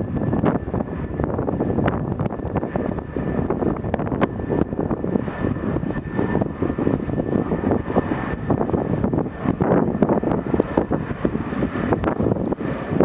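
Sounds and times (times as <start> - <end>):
airliner engines whining and rumbling: 0.0 - 13.0
wind buffeting microphone: 0.0 - 13.0.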